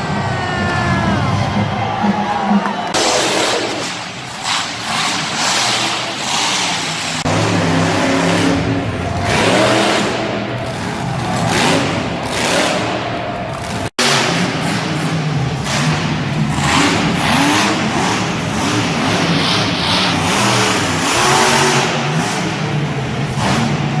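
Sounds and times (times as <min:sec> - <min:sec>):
monster truck engines revving: 0:00.0 - 0:24.0.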